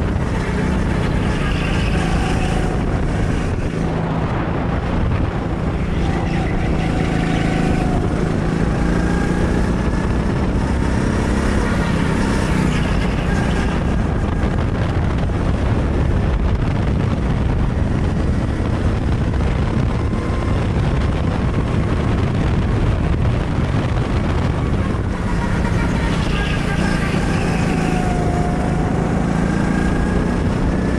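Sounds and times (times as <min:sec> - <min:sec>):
go-kart engine running: 0:00.0 - 0:30.9.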